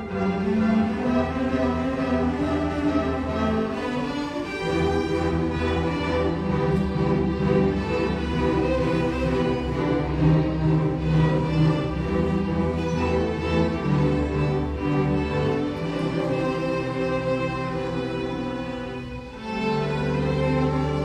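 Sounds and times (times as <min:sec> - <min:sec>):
string orchestra sustained notes: 0:00.0 - 0:21.0.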